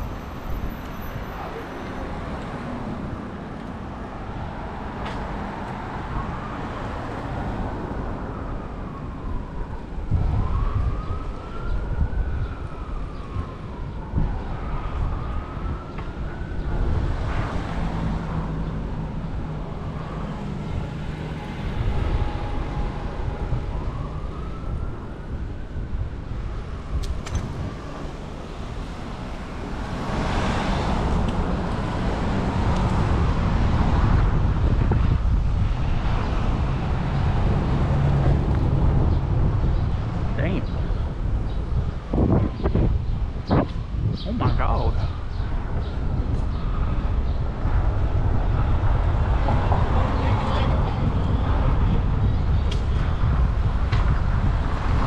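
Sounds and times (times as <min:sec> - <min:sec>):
emergency vehicle siren wailing: 0:00.0 - 0:55.0
road rumble: 0:00.0 - 0:55.0
wind on microphone: 0:02.8 - 0:55.0.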